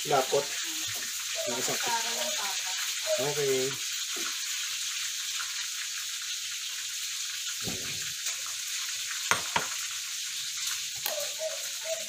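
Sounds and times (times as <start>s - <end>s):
food sizzling on stove: 0.0s - 12.0s.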